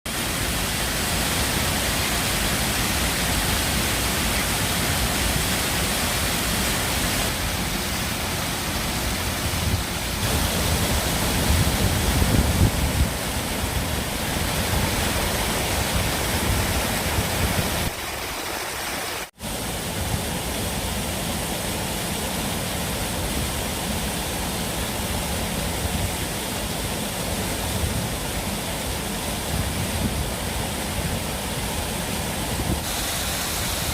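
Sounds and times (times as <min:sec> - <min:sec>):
running water rushing: 0:00.1 - 0:33.9.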